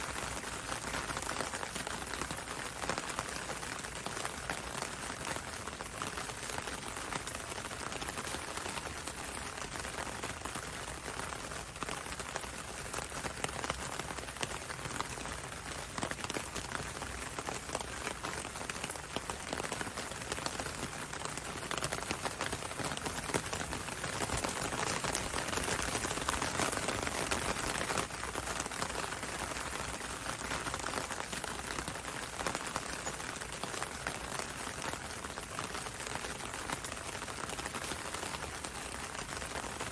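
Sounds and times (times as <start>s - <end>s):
rain on window and road: 0.0s - 39.9s.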